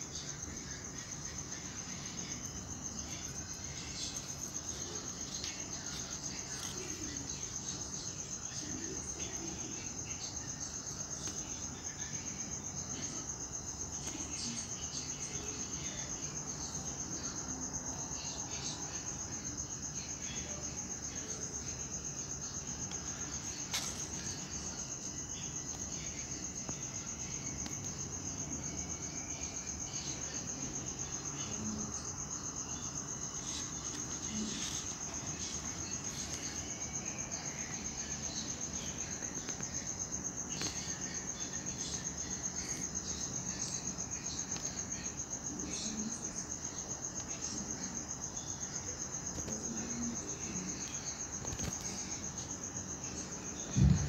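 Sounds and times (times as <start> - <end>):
insect trilling: 0.0 - 54.0.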